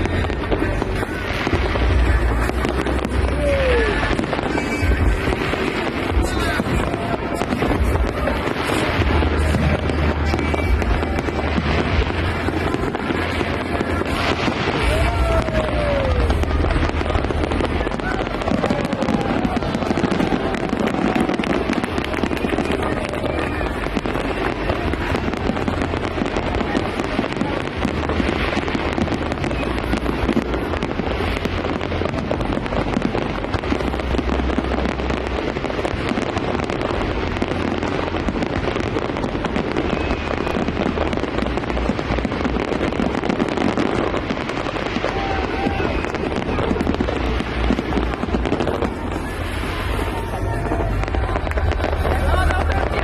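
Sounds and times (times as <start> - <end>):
fireworks booms: 0.0 - 53.0
fireworks crackling: 0.0 - 53.0
fireworks whistles: 0.0 - 53.0.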